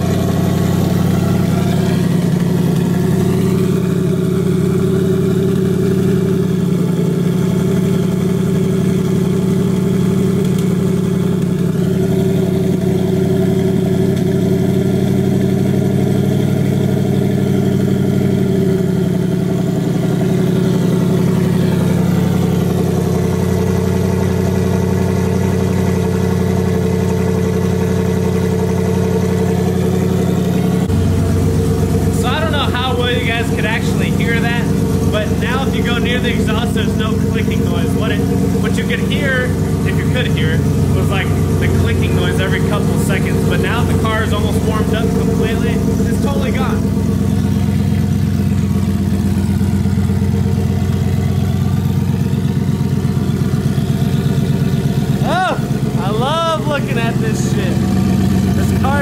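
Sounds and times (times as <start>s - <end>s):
car engine idling: 0.0s - 59.0s
engine ticking: 0.0s - 59.0s.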